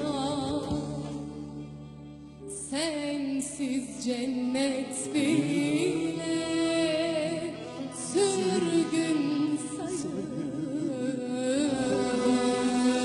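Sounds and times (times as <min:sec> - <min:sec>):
folk instrumental ensemble: 0:00.0 - 0:13.0
woman singing ornamented notes: 0:02.6 - 0:13.0.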